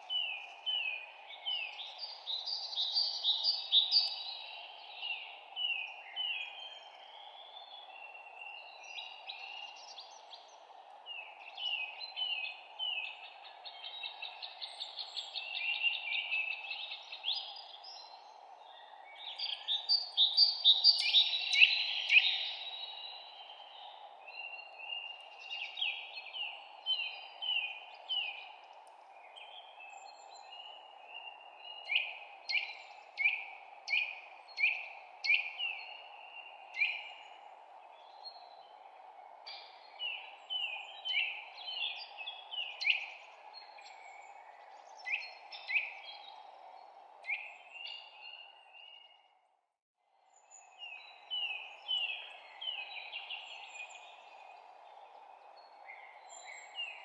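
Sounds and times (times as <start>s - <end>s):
songbirds chirping and singing: 0.0s - 49.3s, 50.4s - 57.0s.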